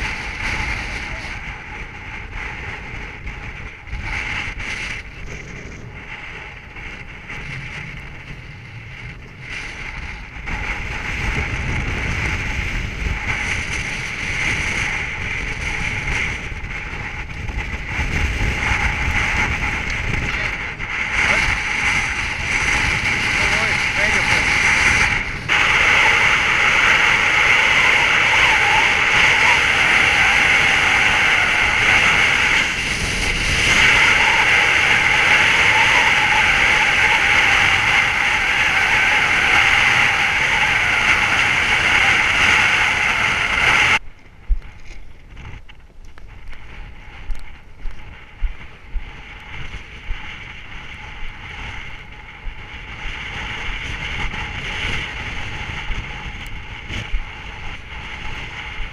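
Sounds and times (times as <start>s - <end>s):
wind rushing over camera: 0.0s - 58.9s.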